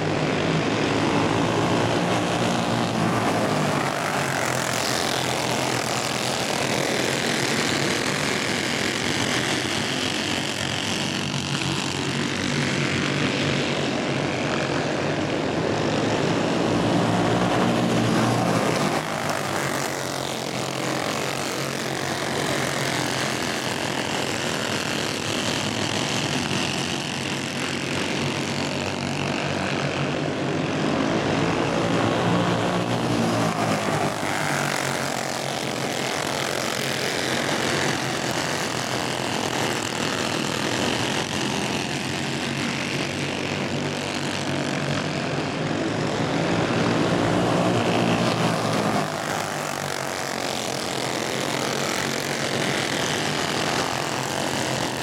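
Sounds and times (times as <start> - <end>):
go-kart engines buzzing: 0.0 - 55.0.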